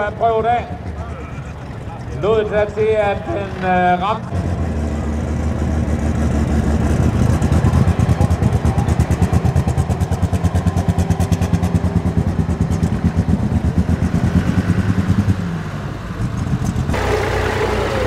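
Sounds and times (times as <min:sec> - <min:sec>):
steady engine hum: 0:00.0 - 0:18.0
tractor engine pulsing: 0:00.0 - 0:18.0.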